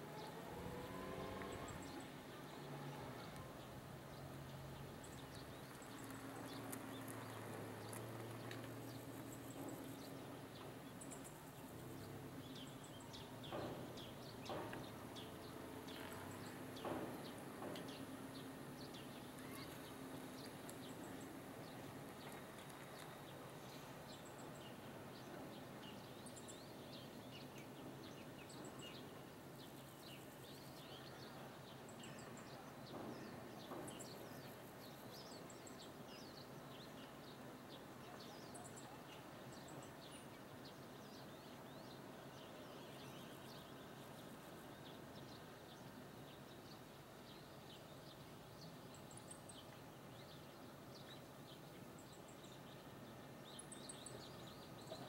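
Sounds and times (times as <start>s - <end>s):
low steady background hiss: 0.0s - 55.0s.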